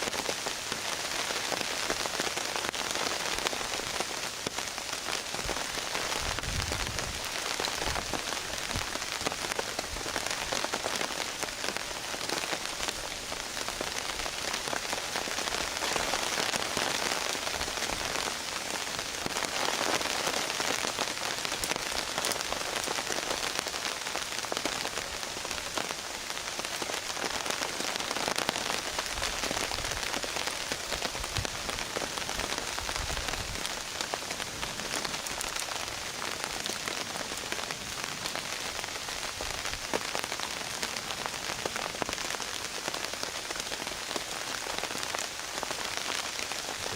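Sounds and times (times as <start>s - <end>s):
rain falling on a tarp: 0.0s - 46.9s.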